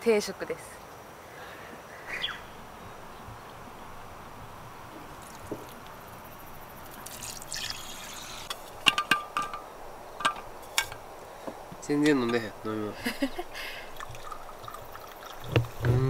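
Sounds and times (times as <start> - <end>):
steady soft hiss: 0.0 - 16.0.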